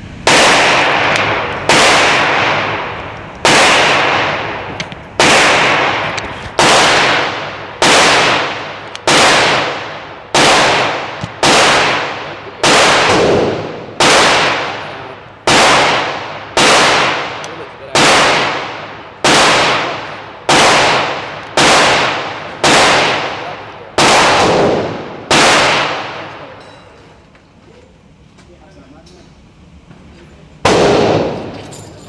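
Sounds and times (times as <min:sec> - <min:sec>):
pistol shots echoing: 0:00.3 - 0:26.7, 0:30.7 - 0:31.7.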